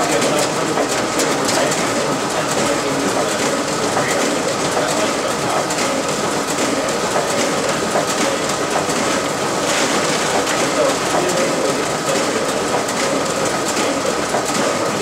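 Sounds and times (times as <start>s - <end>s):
printer clattering: 0.0s - 15.0s.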